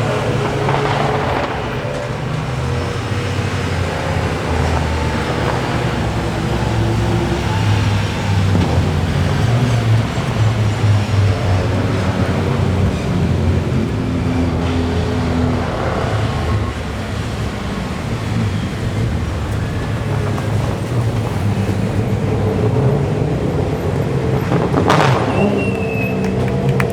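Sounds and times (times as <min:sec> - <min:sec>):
racing car engines running: 0:00.0 - 0:26.9.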